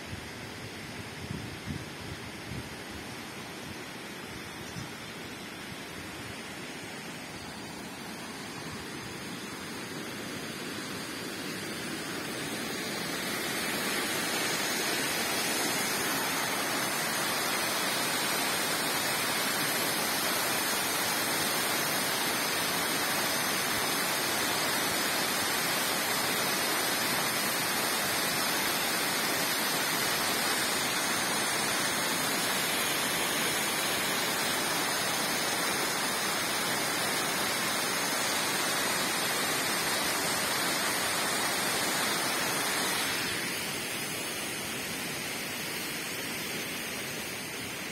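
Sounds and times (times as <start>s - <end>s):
waterfall rushing: 5.4s - 47.9s.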